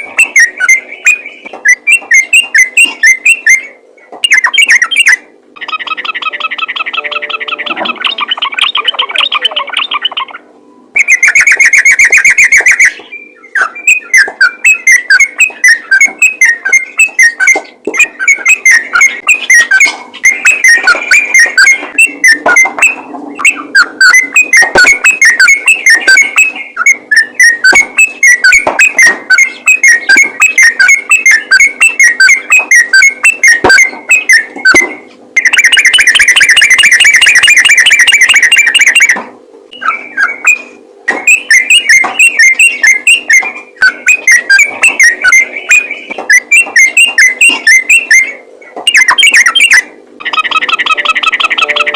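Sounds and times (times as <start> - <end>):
bird chattering: 0.0 - 51.9
faint steady hum: 0.0 - 51.9
loud harsh bird trill: 0.0 - 51.9.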